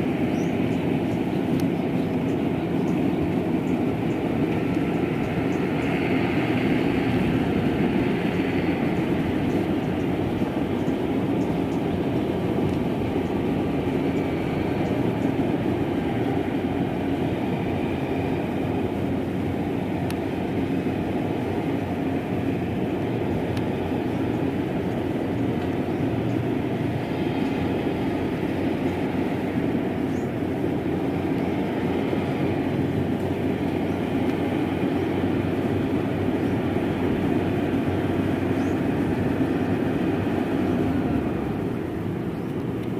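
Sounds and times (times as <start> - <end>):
combine harvester drone: 0.0 - 42.9.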